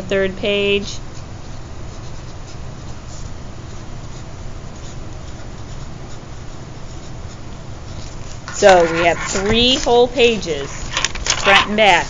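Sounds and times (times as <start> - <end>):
low background hum: 0.0 - 12.0
pen scratching on paper: 1.4 - 12.0.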